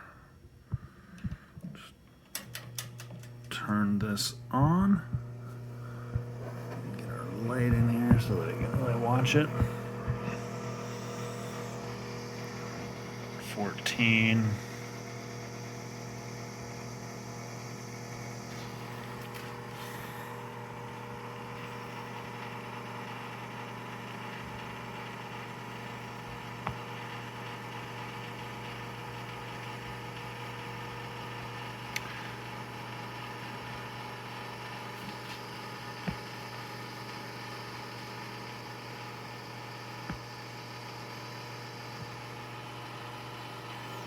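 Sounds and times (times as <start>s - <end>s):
toaster oven humming: 2.1s - 44.0s.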